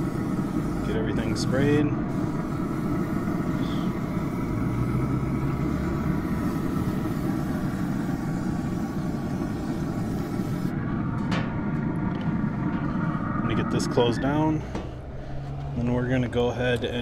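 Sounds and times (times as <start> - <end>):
pellet grill fan humming: 0.0 - 17.0.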